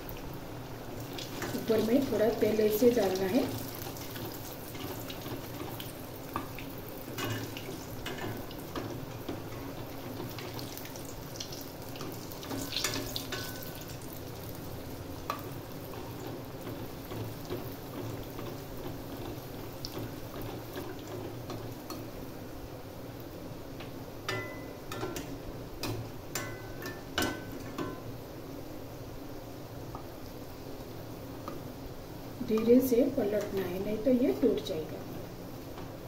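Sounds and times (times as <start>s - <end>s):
oil sizzling and bubbling: 0.0s - 36.0s.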